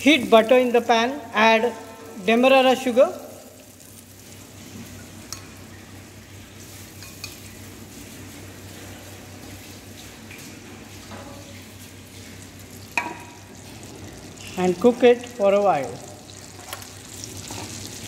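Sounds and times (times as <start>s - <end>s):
butter sizzling in a frying pan: 1.5s - 10.1s, 10.8s - 18.0s.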